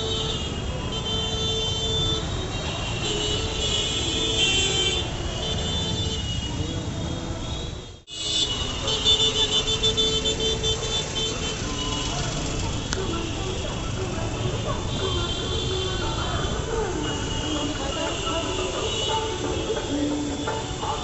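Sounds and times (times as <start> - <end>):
busy road traffic: 0.0 - 21.0
vehicle horns tooting: 0.0 - 21.0.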